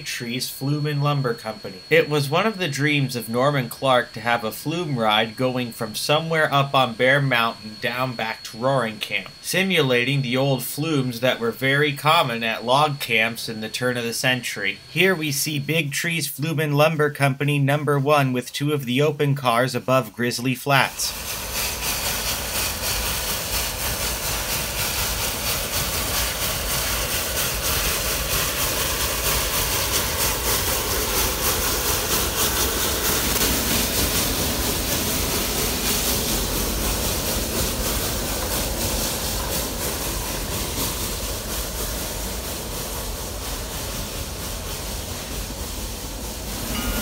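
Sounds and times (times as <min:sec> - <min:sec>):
steam hiss: 0:00.0 - 0:47.0
steam locomotive exhaust beat: 0:00.0 - 0:47.0.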